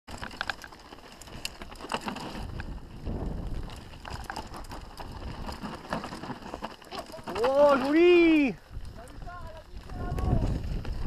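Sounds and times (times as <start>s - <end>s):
bike clicks and rattles: 0.1s - 11.0s
bike tyre rumble on dirt: 0.1s - 11.0s
wind buffeting microphone: 1.2s - 11.0s.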